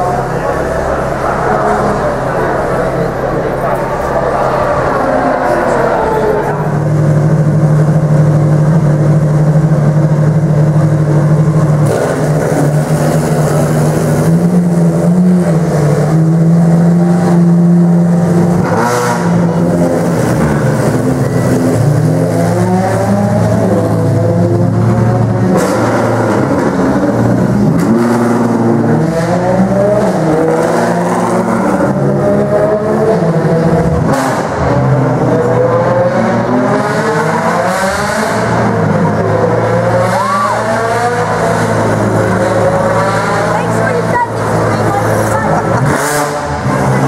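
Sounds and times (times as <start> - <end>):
engine throttle blips: 0.0 - 47.0
race car engines idling: 0.0 - 47.0.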